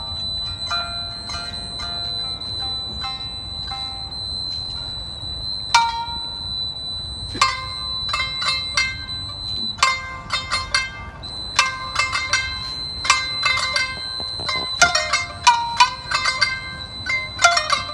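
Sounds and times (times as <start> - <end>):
plucked string instrument: 0.0 - 4.6, 7.3 - 17.9
steady high-pitched tone: 0.0 - 17.9.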